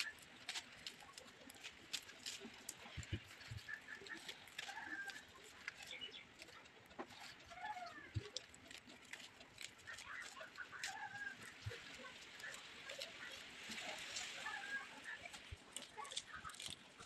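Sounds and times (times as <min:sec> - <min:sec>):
leaves rustling on steel plate: 0:00.0 - 0:17.0.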